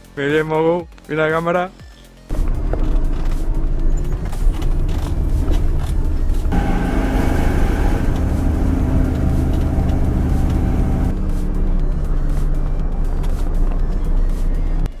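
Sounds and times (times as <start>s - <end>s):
vehicle engine running under load: 2.3s - 15.0s.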